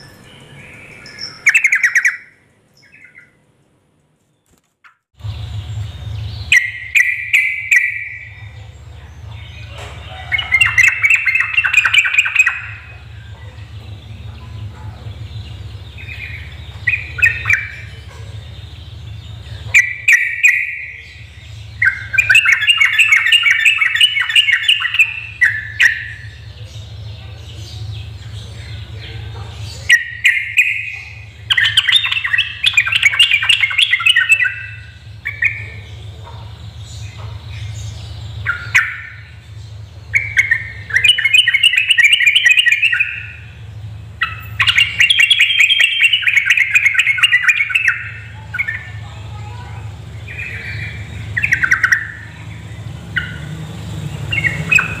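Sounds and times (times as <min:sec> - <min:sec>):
bird singing chattering notes: 0:00.0 - 0:03.4, 0:04.4 - 0:55.0
low hum: 0:05.2 - 0:55.0.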